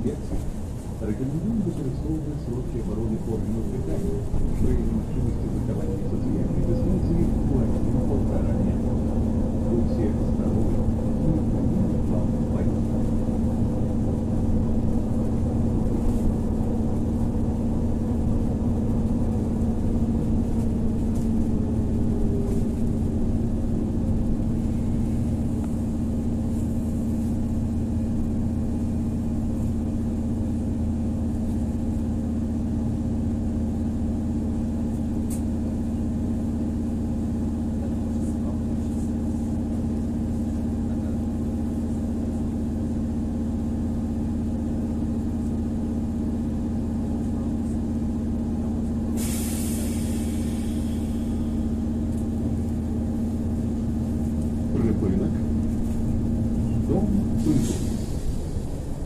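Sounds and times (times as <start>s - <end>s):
road rumble: 0.0s - 59.0s.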